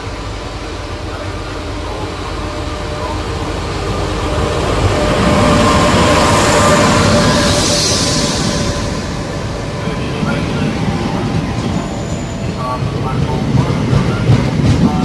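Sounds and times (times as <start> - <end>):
locomotive whine: 0.0 - 15.0
train running rumble: 0.0 - 15.0.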